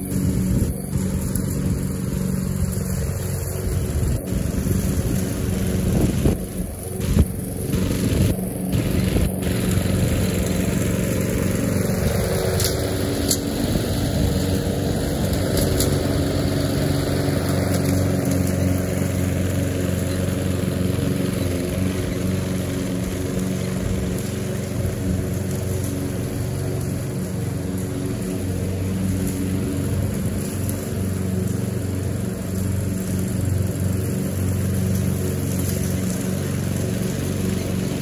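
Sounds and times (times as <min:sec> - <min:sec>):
lawn mower engine running: 0:00.0 - 0:38.0.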